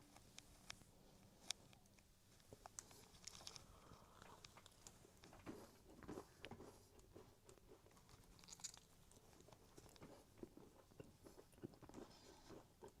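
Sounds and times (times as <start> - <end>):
close-up chewing of cookie: 2.4 - 13.0.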